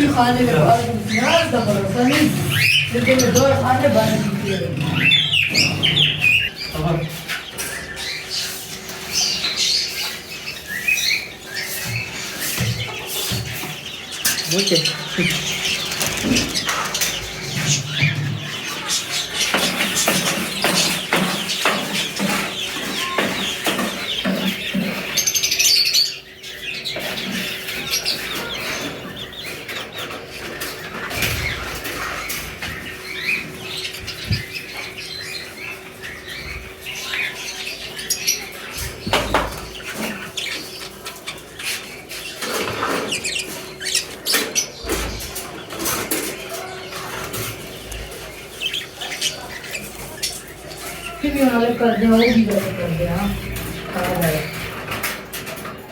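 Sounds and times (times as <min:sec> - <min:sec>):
clicks and scratches from cage: 0:00.0 - 0:51.5, 0:52.2 - 0:55.9
small birds chirping: 0:00.0 - 0:55.9.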